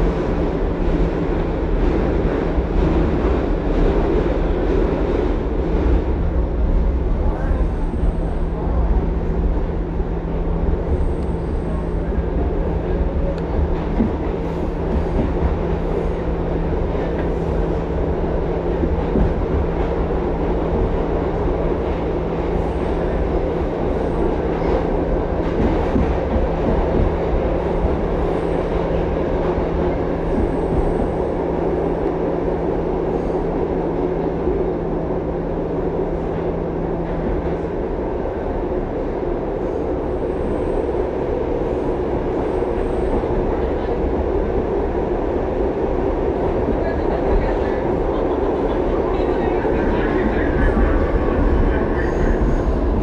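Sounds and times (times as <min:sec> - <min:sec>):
subway wheels rumbling on rail: 0:00.0 - 0:53.0.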